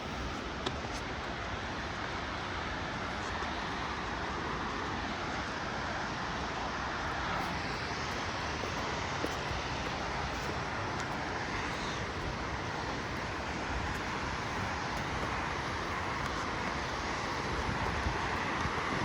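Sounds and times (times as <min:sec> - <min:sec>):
fast-flowing water rushing: 0:03.7 - 0:19.0.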